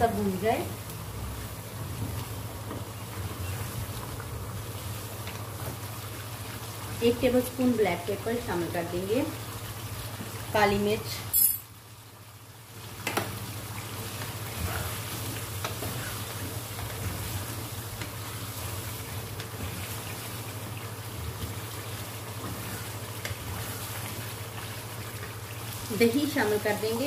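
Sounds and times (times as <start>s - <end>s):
food sizzling and bubbling in pan: 0.0s - 27.0s.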